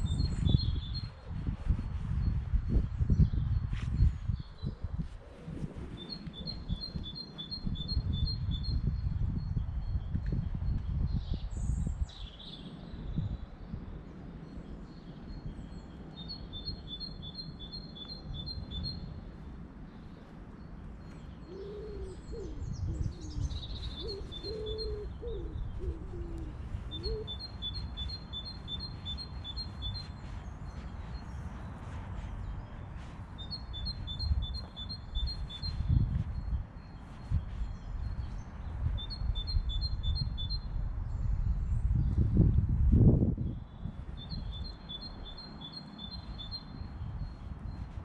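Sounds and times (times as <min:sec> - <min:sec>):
steady low rumble: 0:00.0 - 0:48.0.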